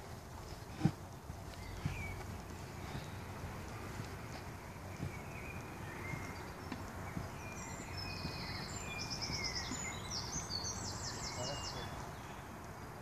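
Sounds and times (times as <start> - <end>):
footsteps on artificial turf: 0.0 - 11.4
background hiss: 0.0 - 13.0
songbirds singing: 0.0 - 13.0.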